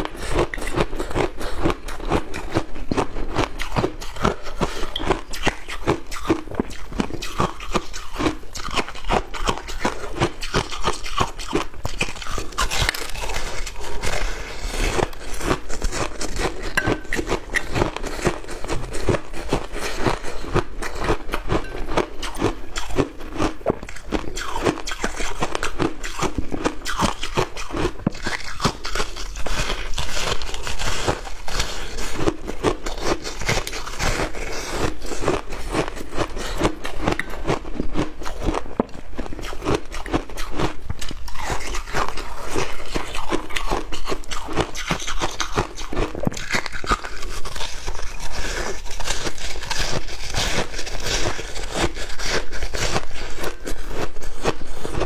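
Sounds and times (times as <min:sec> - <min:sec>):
person crunching ice: 0:00.0 - 0:55.0.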